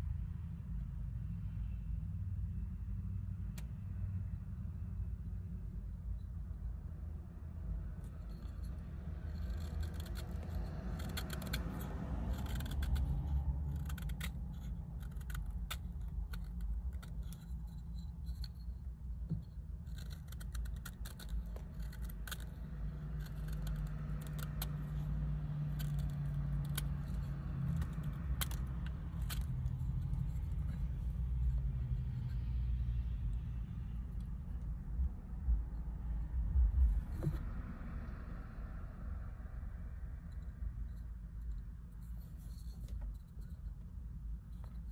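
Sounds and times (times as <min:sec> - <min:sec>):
low steady rumble: 0:00.0 - 0:44.9.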